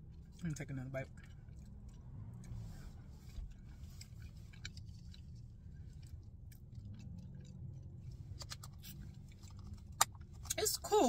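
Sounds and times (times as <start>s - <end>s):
low steady hum: 0.0s - 11.0s
person chewing: 1.0s - 10.6s.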